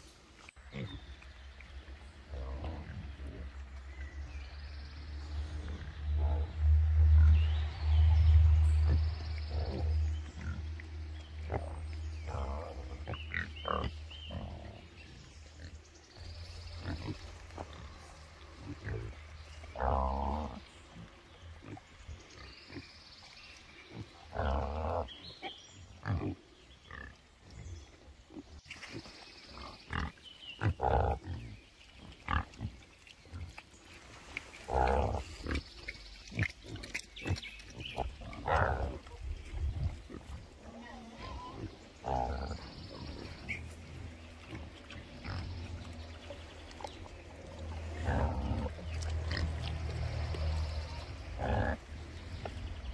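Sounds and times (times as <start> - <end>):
pigs grunting: 2.3 - 3.6, 5.4 - 23.0, 23.8 - 33.6, 34.6 - 52.9.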